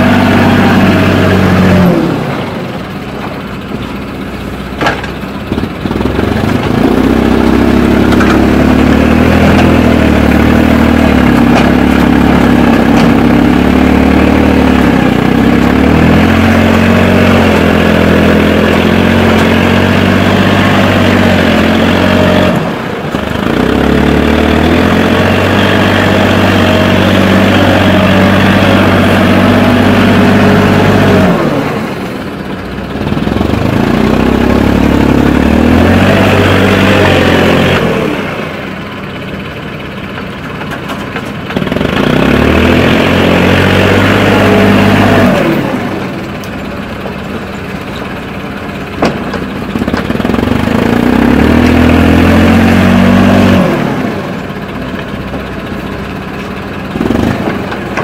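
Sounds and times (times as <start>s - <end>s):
backhoe loader engine running: 0.0s - 58.0s.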